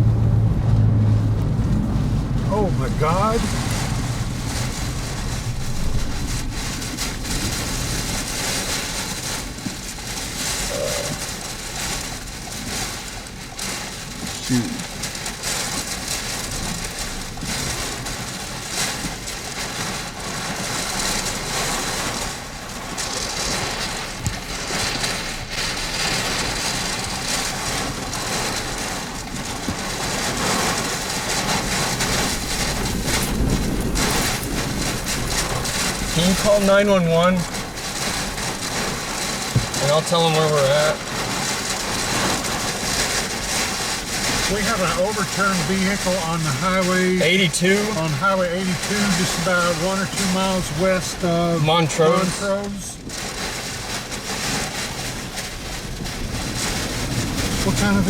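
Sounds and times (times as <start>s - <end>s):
rain on vehicle: 0.0s - 58.0s
road rumble: 0.0s - 58.0s
wind: 0.0s - 58.0s.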